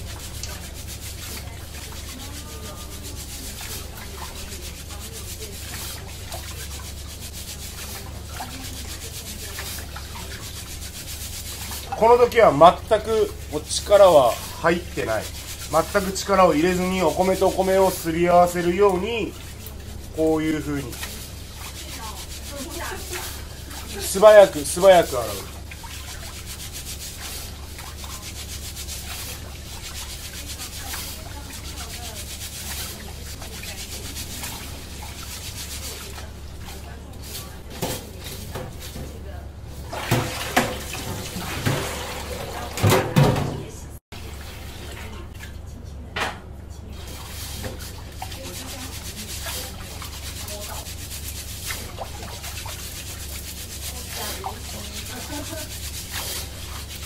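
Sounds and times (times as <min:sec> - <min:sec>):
low steady hum: 0:00.0 - 0:42.8, 0:43.6 - 0:57.0
rice being washed by hand in water: 0:00.0 - 0:43.4, 0:44.1 - 0:45.6, 0:46.8 - 0:57.0.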